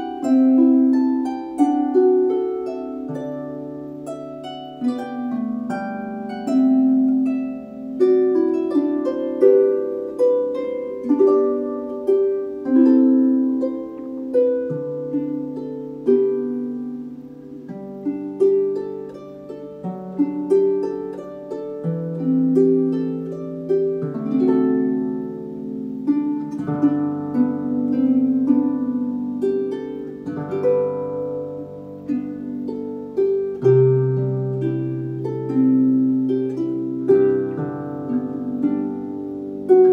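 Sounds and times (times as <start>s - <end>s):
solo harp music: 0.0s - 39.9s.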